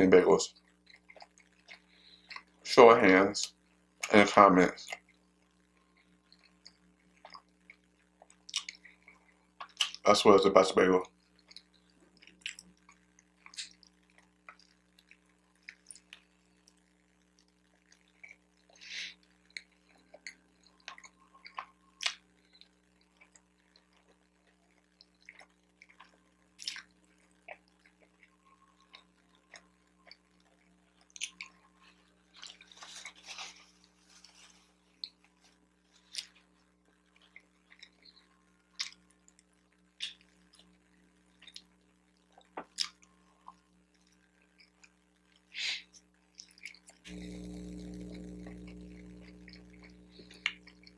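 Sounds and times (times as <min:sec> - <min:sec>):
person chewing food: 0:00.6 - 0:02.6, 0:04.8 - 0:10.0, 0:11.2 - 0:50.9.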